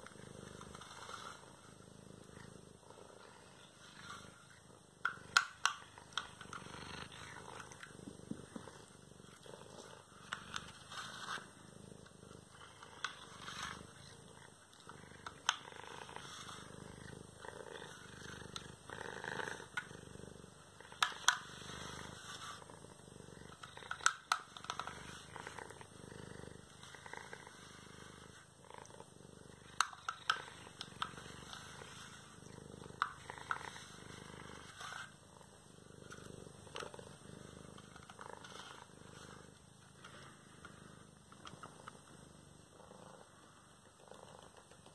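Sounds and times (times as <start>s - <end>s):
cat purring: 0.0s - 44.9s.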